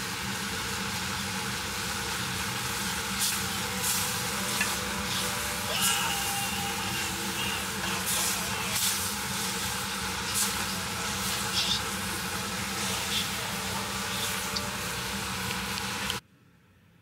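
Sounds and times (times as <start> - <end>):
food sizzling in a pot: 0.0 - 16.2.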